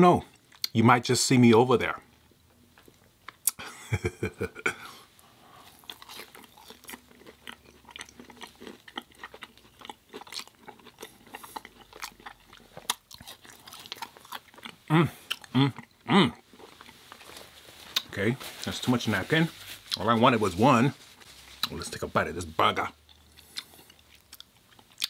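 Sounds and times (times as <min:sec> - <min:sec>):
chewing and crunching: 0:02.2 - 0:03.6, 0:05.5 - 0:22.1, 0:22.7 - 0:25.0.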